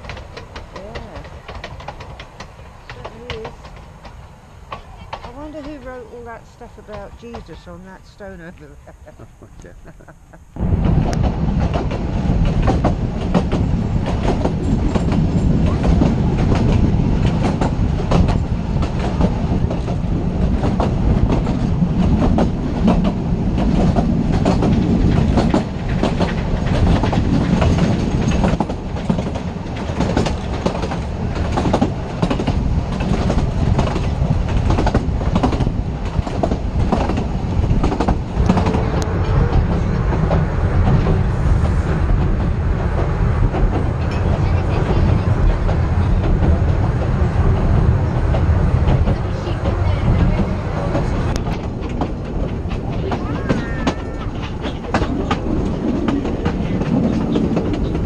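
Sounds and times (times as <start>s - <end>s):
wheels clicking over rail joints: 0.0s - 9.5s, 10.1s - 41.2s, 42.1s - 58.0s
railway carriage rumble: 0.0s - 58.0s.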